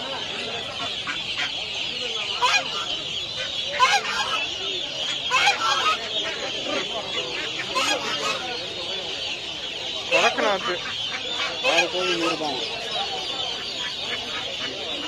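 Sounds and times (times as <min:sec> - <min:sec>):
high chatter of small birds: 0:00.0 - 0:15.0
people's voices: 0:00.0 - 0:15.0
poultry calling and clucking: 0:00.0 - 0:15.0.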